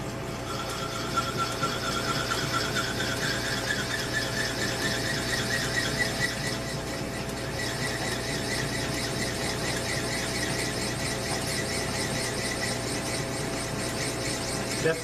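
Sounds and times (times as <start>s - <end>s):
lathe motor hum: 0.0s - 15.0s
drill squealing cutting steel: 0.4s - 15.0s.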